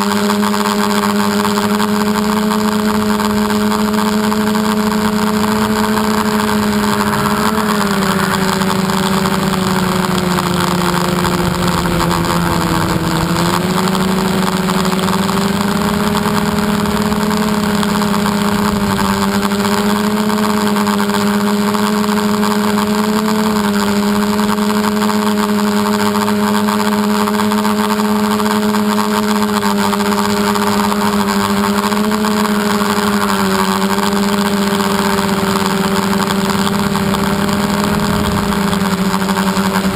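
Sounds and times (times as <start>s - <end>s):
model aircraft motor droning: 0.0s - 39.9s.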